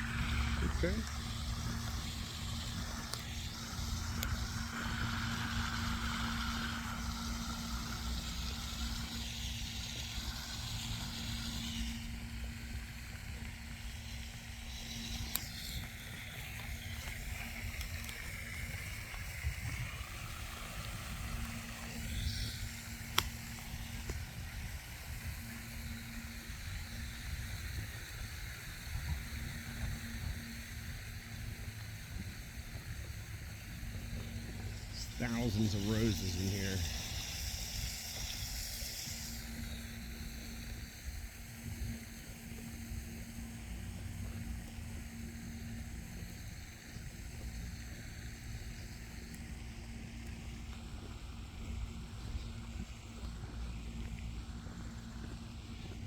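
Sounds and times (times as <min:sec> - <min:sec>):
steady hum: 0:00.0 - 0:56.0
wind rumble on microphone: 0:00.0 - 0:56.0.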